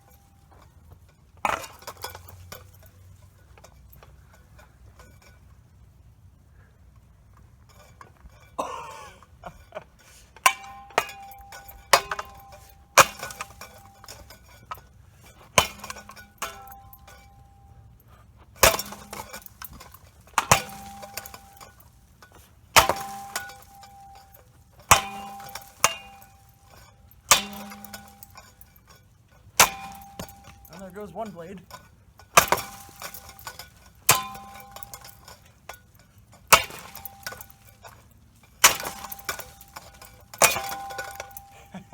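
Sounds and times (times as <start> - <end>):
ceiling fan clanking hits: 7.7 - 41.9.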